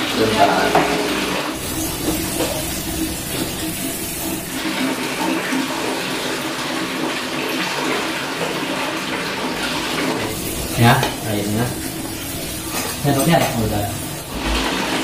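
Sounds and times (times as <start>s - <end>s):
tap water running into basin: 0.0s - 15.0s.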